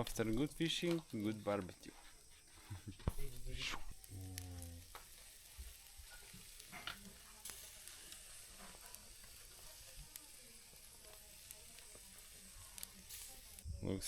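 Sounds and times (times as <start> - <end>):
crackles and pops: 0.0 - 14.0
fish sizzling on a grill: 0.0 - 14.0.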